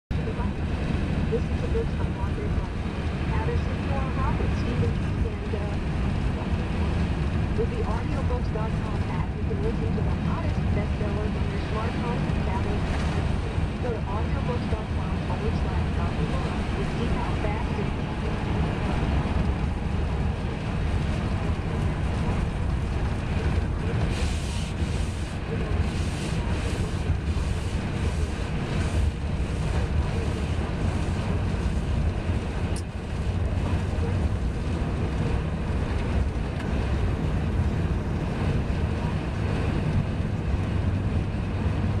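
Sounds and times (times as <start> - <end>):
car road and wind noise: 0.1 - 42.0.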